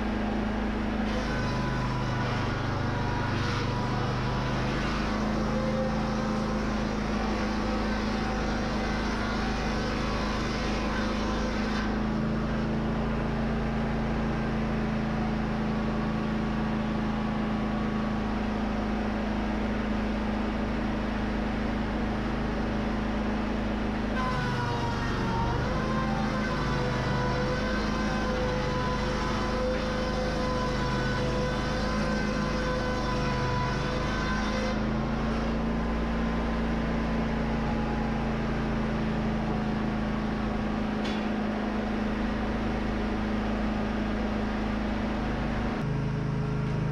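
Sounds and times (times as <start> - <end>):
edger gas engine running: 0.0 - 46.9.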